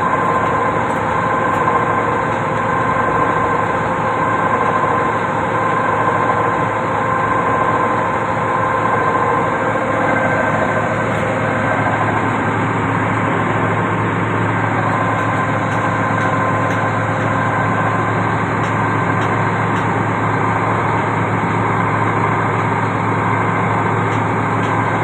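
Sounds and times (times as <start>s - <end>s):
concrete pump engine humming: 0.0s - 25.0s
high-pitched whine: 0.0s - 25.0s.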